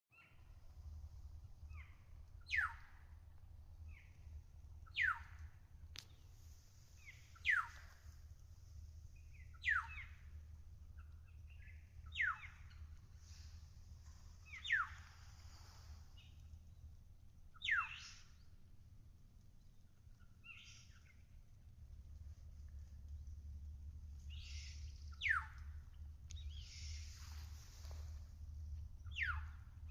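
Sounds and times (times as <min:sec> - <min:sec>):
low rumble: 0:00.2 - 0:29.9.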